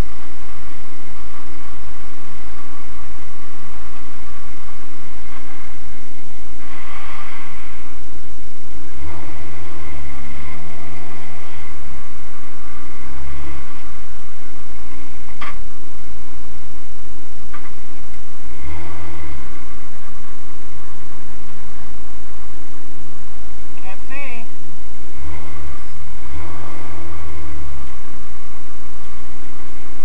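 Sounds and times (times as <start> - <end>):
engine throttle blips: 0.0 - 30.0.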